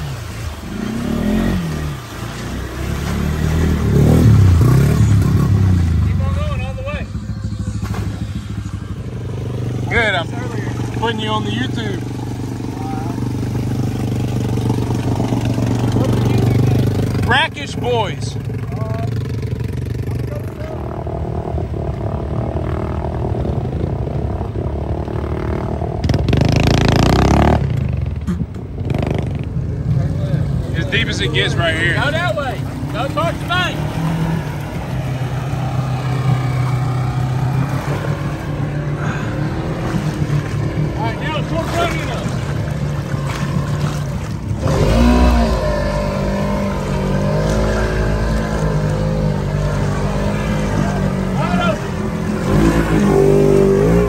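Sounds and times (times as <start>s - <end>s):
vehicle engine revving in mud: 0.0s - 54.0s.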